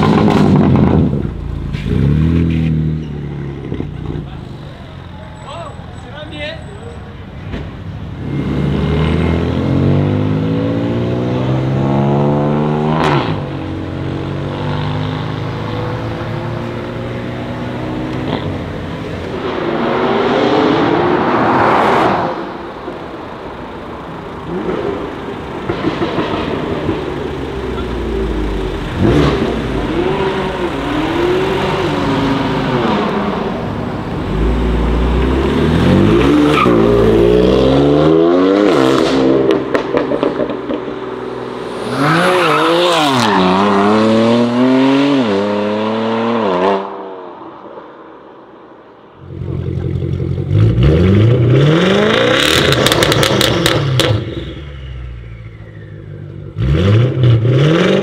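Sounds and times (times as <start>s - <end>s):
car engines accelerating and revving: 0.0s - 58.0s.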